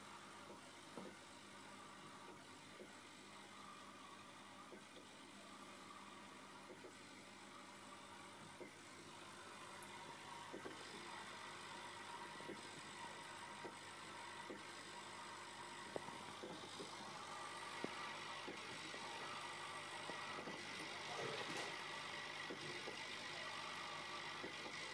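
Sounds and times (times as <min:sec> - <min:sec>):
mechanical hum and hiss: 0:00.0 - 0:24.9.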